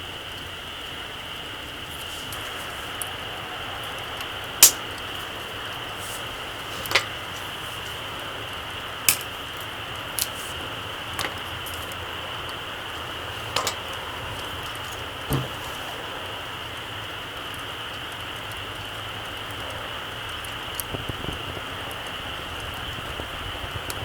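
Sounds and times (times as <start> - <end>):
campfire crackling: 0.0 - 24.0
steady hiss: 0.0 - 24.0.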